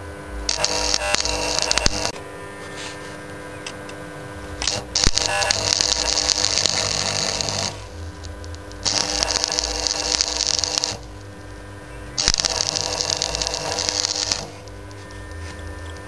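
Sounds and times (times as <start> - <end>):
welding arc crackling: 0.0 - 2.2, 4.4 - 16.0
steady hum: 0.0 - 16.0.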